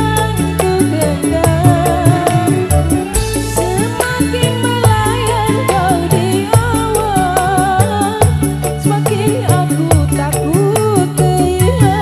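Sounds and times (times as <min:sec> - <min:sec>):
bass and drums: 0:00.0 - 0:12.0
woman singing: 0:00.0 - 0:12.0.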